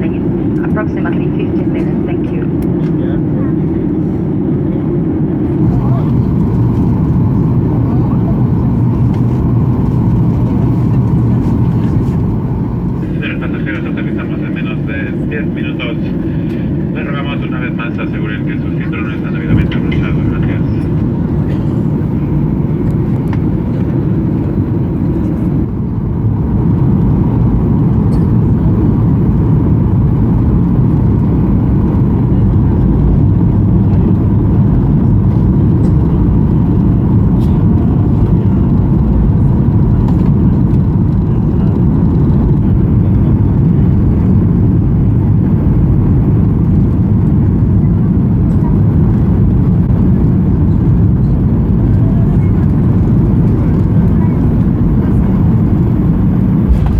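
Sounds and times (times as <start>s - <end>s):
airplane cabin engine drone: 0.0s - 56.9s.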